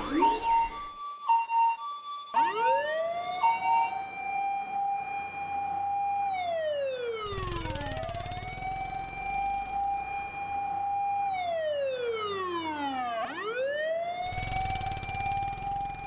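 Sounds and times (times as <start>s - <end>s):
fire engine siren: 0.0s - 16.0s.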